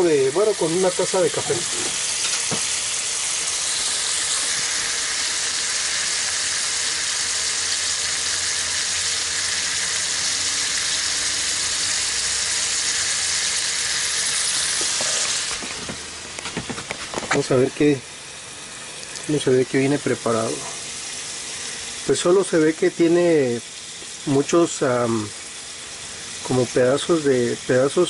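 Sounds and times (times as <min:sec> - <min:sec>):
fish sizzling in a frying pan: 0:00.0 - 0:28.0.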